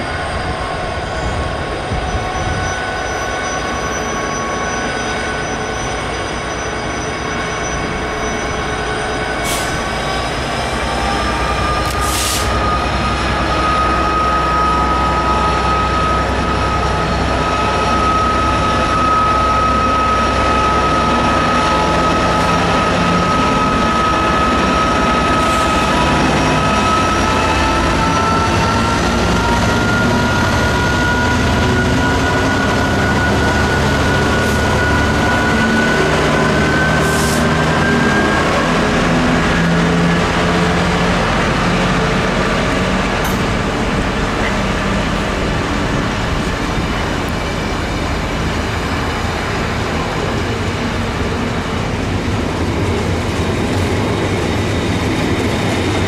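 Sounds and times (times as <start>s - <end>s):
diesel locomotive whine: 0.0s - 56.0s.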